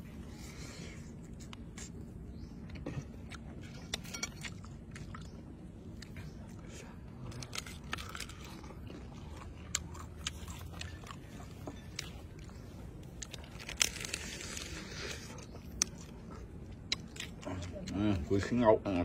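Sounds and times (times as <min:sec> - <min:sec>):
person chewing crunchy food: 0:00.0 - 0:18.6.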